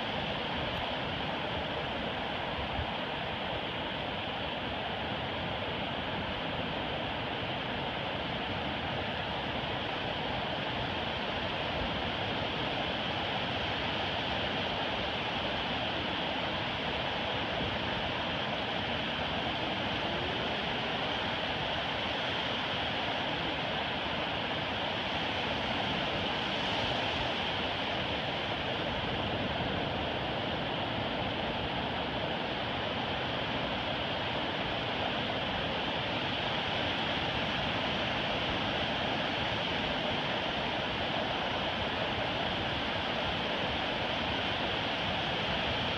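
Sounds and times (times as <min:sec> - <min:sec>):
waves washing up a beach: 0:00.0 - 0:45.9.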